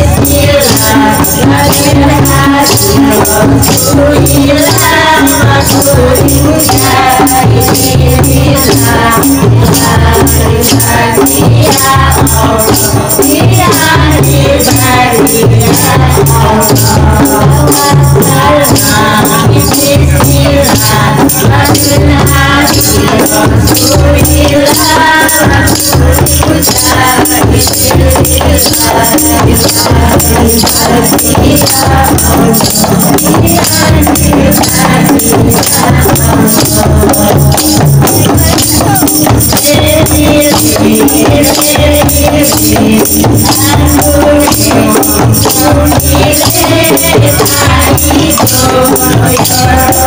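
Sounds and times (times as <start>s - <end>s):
frame drums beating: 0.0s - 50.0s
women singing: 0.0s - 50.0s.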